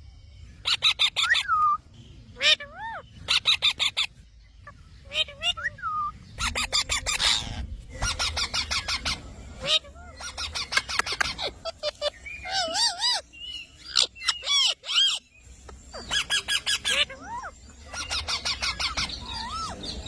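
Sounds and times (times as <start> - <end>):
parrot chattering and whistling: 0.6 - 1.8, 2.4 - 4.2, 5.0 - 15.2, 15.9 - 20.0.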